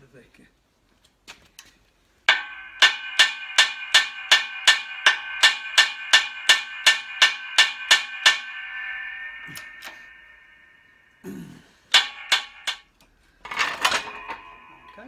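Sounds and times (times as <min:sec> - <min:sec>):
brake drum ringing: 0:02.3 - 0:15.0
hammer blows on metal: 0:02.3 - 0:15.0.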